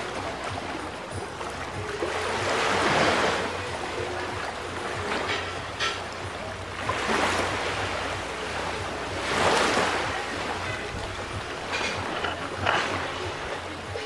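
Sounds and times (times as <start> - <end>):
small waves washing onto beach: 0.0 - 14.0.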